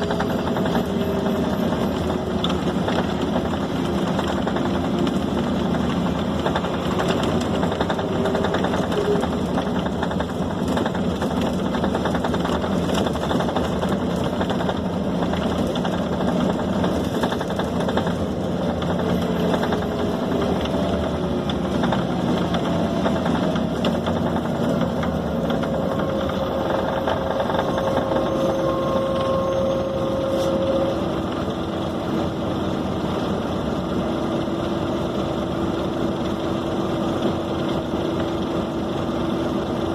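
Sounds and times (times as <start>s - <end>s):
bus diesel engine running: 0.0s - 39.9s
road and body noise: 0.0s - 39.9s.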